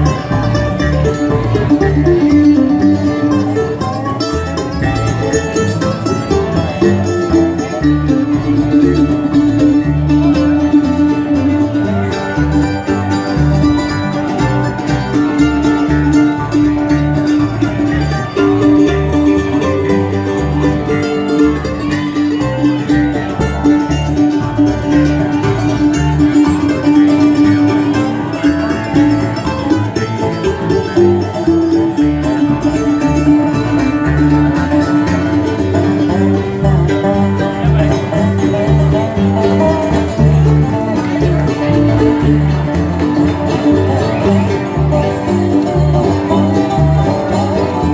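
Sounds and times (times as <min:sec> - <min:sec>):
plucked upright bass: 0:00.0 - 0:47.9
strummed acoustic guitar: 0:00.0 - 0:47.9.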